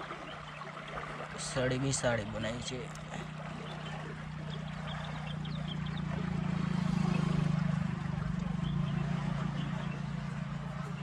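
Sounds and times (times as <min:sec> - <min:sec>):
flowing water: 0:00.0 - 0:11.0
motor engine droning: 0:00.0 - 0:11.0.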